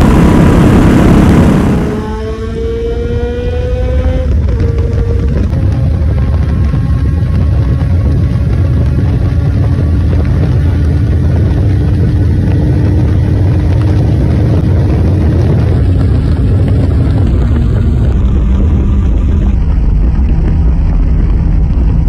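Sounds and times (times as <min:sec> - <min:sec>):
motorcycle engine drone: 0:00.0 - 0:22.0
wind rush on microphone: 0:00.0 - 0:22.0.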